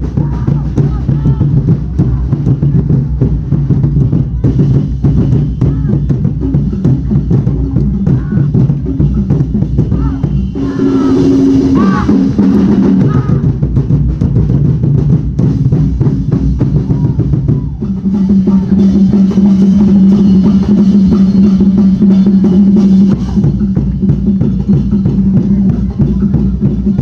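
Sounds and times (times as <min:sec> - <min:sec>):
drums beating a dense rhythm: 0:00.0 - 0:27.0.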